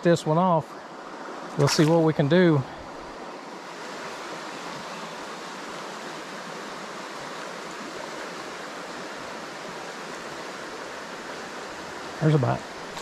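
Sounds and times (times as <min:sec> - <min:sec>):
creek water rushing over rocks: 0:00.4 - 0:13.0.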